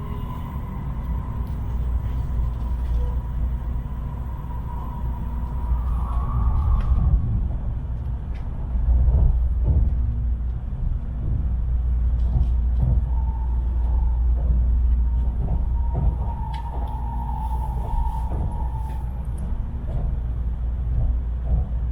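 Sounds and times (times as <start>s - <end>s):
train cabin rumble: 0.0s - 21.9s.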